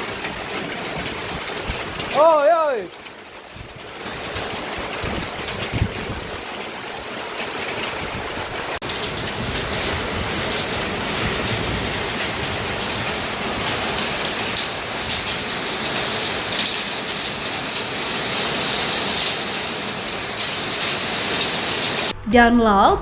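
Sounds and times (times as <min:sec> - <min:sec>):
hailstones pattering on a roof: 0:00.0 - 0:22.1
heavy rain: 0:00.0 - 0:22.2.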